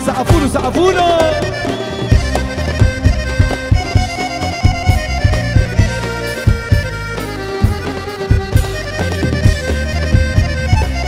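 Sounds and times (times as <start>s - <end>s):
instrumental dance music: 0.0s - 11.0s.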